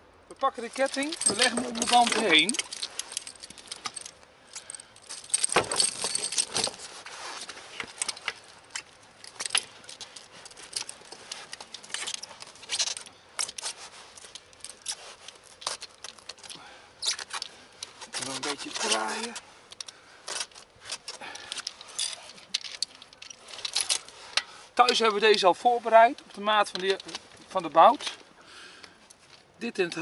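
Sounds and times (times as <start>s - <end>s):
snow chain links jangling: 0.4s - 28.2s.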